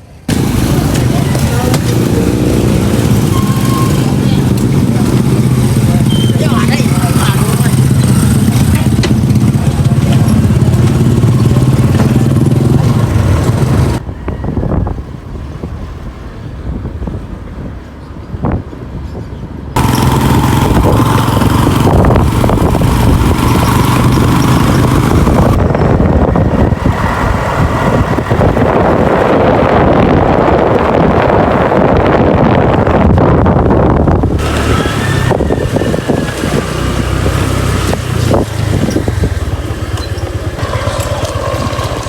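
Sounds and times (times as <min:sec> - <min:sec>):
vehicle engine and road noise: 0:00.0 - 0:42.0
wind buffeting microphone: 0:00.2 - 0:42.0.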